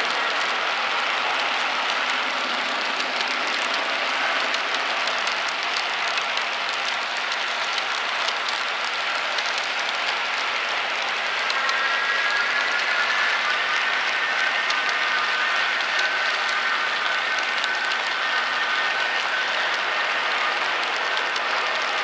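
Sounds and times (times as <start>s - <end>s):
small clicks of train wheels: 0.0s - 22.0s.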